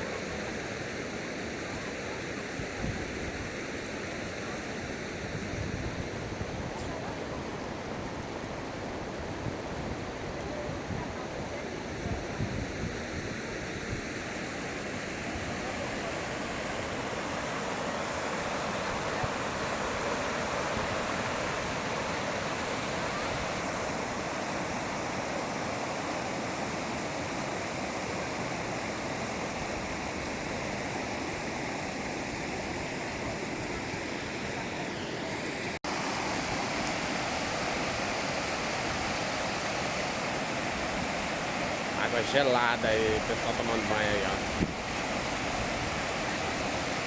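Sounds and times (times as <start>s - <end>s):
waterfall rushing into pool: 0.0s - 47.0s.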